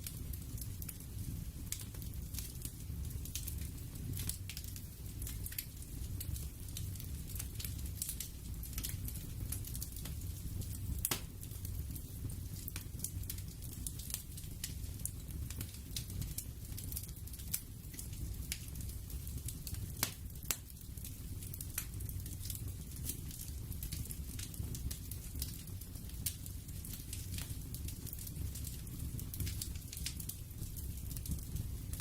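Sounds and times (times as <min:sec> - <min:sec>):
crackling pops and snaps: 0:00.0 - 0:32.0.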